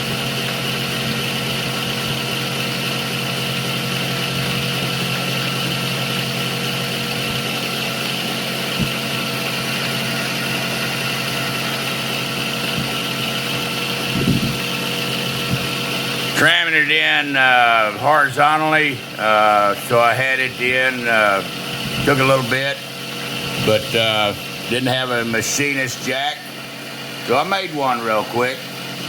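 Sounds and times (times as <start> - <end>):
milling machine humming: 0.0 - 29.0.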